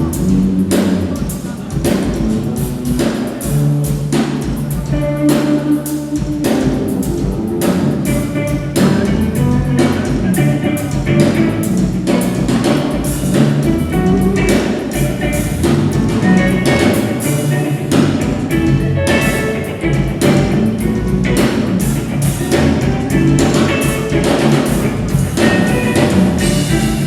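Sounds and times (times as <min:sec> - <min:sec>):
drum kit played busily: 0:00.0 - 0:27.0
live band music: 0:00.0 - 0:27.0.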